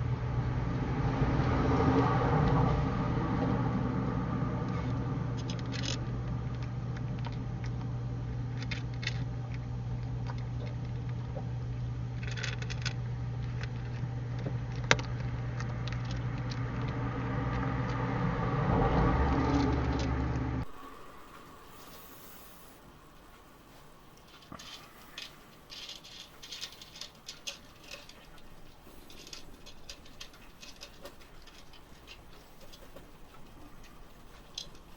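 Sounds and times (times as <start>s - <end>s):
steady low hum: 0.0s - 34.9s
cat crunching dry kibble: 4.7s - 18.1s, 19.4s - 34.9s.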